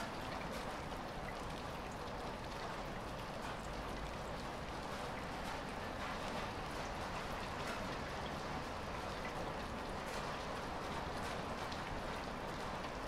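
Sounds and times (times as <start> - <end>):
light rain pitter-patter: 0.0 - 13.0.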